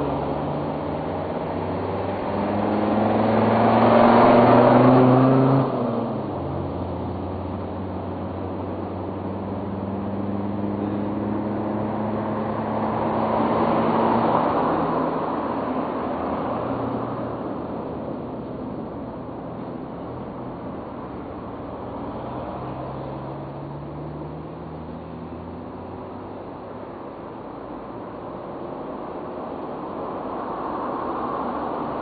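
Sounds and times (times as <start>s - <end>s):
motor vehicle engine hum: 0.0s - 32.0s.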